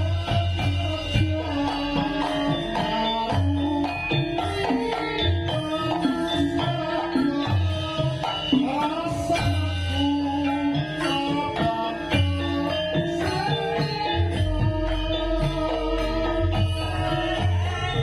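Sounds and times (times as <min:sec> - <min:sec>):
gamelan ensemble playing: 0:00.0 - 0:18.0.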